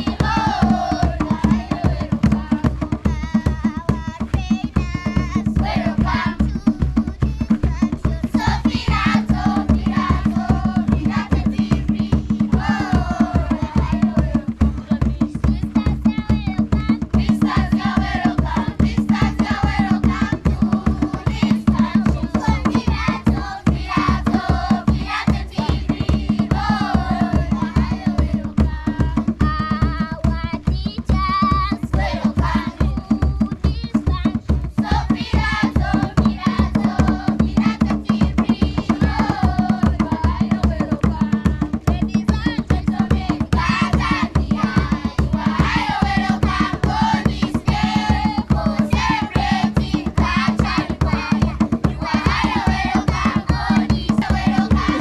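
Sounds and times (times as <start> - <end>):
children singing together: 0.0 - 2.7, 4.6 - 14.5, 16.9 - 29.1, 31.0 - 34.0, 34.8 - 55.0
fast hand-drumming: 0.0 - 55.0.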